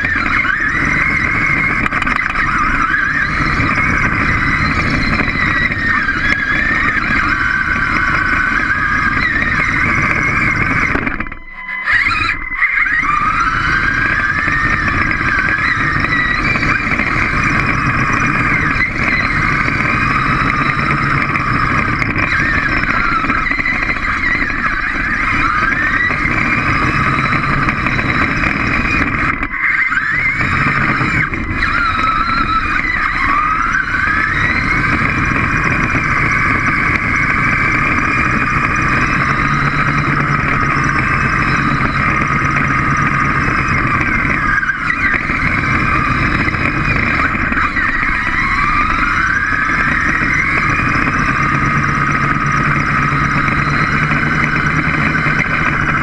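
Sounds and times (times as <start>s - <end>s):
robot drive motors whining: 0.0s - 56.0s.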